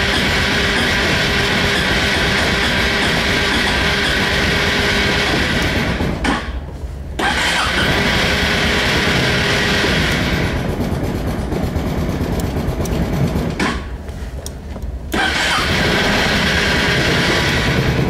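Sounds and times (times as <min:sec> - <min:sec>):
scooter starter cranking engine: 0:00.0 - 0:06.2, 0:07.2 - 0:13.7, 0:15.1 - 0:18.0.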